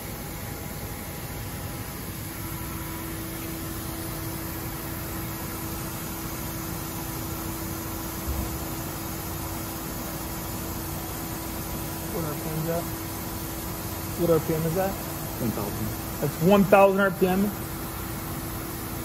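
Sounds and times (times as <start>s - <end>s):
constant hiss: 3.2s - 19.0s.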